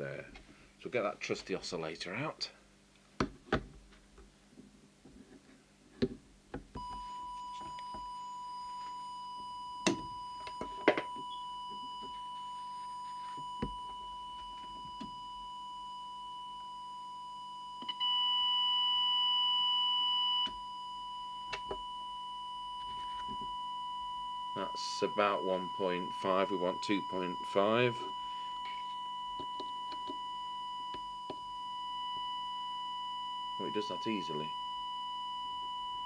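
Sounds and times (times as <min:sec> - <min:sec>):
steady test tone: 0:06.8 - 0:36.0.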